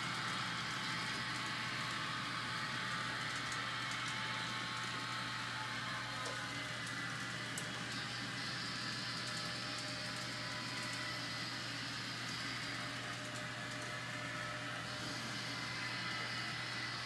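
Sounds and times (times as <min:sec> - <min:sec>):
high-pitched whine: 0:00.0 - 0:17.0
model train motors whirring: 0:00.0 - 0:17.0.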